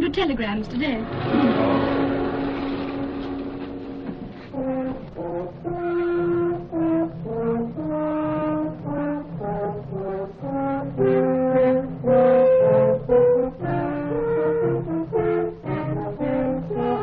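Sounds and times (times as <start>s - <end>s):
brass-led orchestral melody: 1.0s - 17.0s
low sustained accompaniment: 1.0s - 17.0s.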